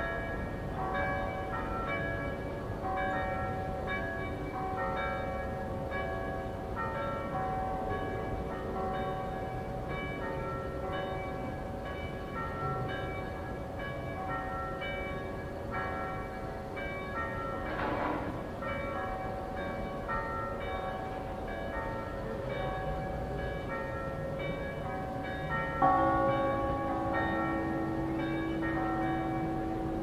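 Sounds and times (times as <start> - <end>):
church bells pealing: 0.0 - 30.0.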